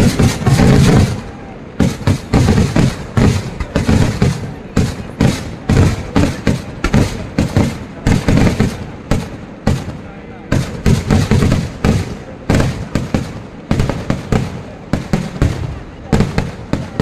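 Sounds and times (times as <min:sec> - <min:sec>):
fireworks bangs with rumble: 0:00.0 - 0:17.0.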